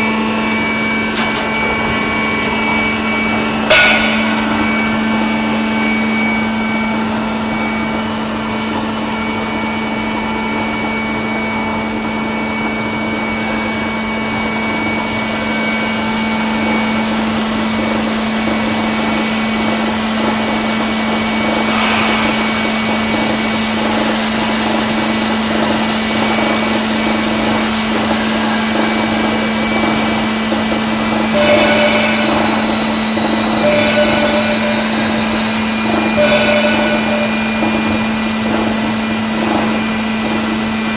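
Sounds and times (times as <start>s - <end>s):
high machine whines: 0.0s - 40.9s
industrial machinery hum: 0.0s - 40.9s.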